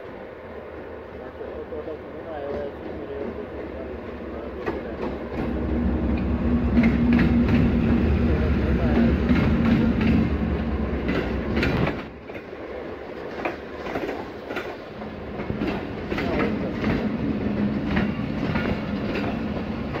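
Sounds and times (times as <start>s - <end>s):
diesel locomotive low rumble: 0.0s - 20.0s
train wheels clicking over rail joints: 2.4s - 20.0s.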